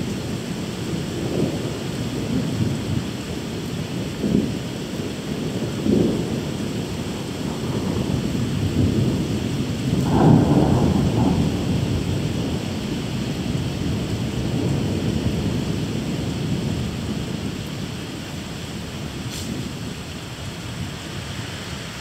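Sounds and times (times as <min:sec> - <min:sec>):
thunder rumbling: 0:00.0 - 0:20.1
steady rain: 0:00.0 - 0:22.0.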